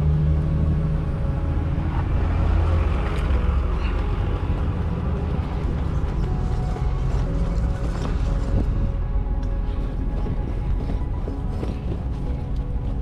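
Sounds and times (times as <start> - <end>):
engine idling: 0.0 - 13.0
low hum: 0.0 - 13.0.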